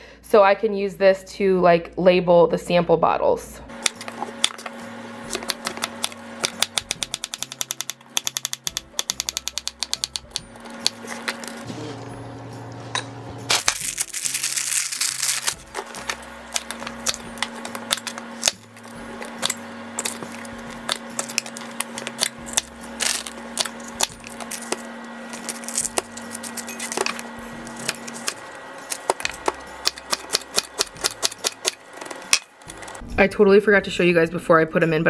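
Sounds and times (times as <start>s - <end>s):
background music: 3.7s - 35.0s.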